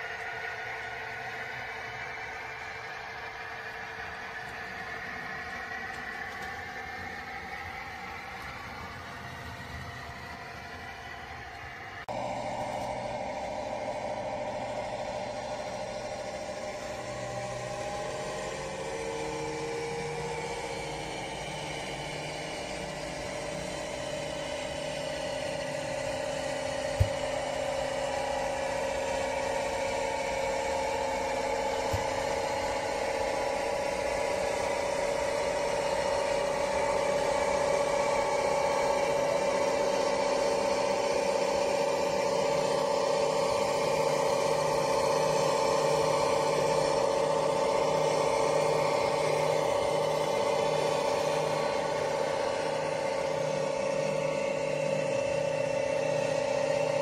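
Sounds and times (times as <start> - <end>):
model locomotive diesel engine sound: 0.0 - 57.0.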